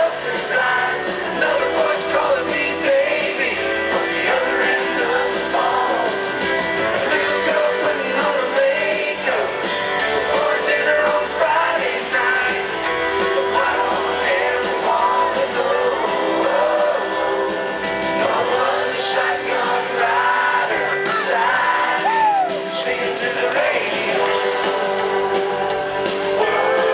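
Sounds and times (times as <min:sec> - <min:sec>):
man singing: 0:00.0 - 0:25.4, 0:26.4 - 0:26.9
drums: 0:00.0 - 0:26.9
electric and acoustic guitars: 0:00.0 - 0:26.9.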